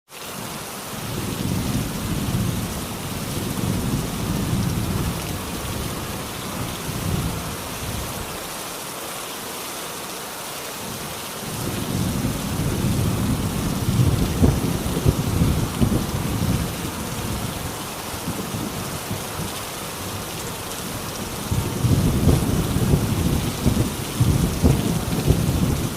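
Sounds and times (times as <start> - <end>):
steady rain: 0.1 - 25.9
low rolling thunder: 1.0 - 8.3, 11.5 - 25.9.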